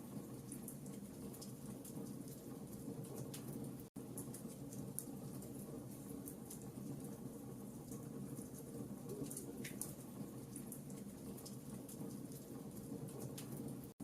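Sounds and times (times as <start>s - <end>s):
campfire burning: 0.0s - 14.0s
fire crackling and popping: 0.0s - 14.0s.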